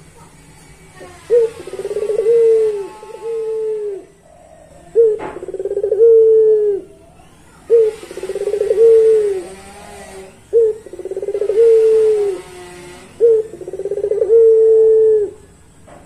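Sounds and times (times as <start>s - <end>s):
dove cooing: 0.9s - 15.6s.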